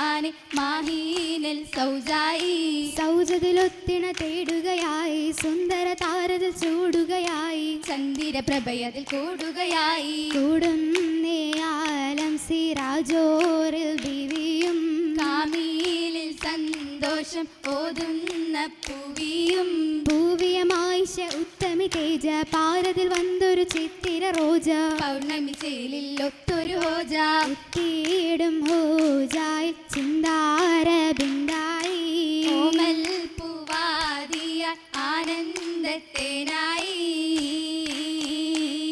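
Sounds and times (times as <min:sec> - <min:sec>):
rhythmic hand claps: 0:00.0 - 0:38.9
women singing: 0:00.0 - 0:38.9.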